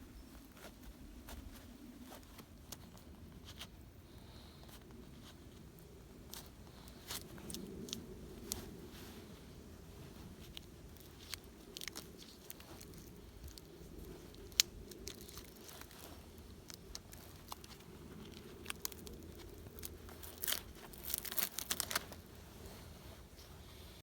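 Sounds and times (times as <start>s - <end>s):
dry material crunching and crackling: 0.2s - 23.9s.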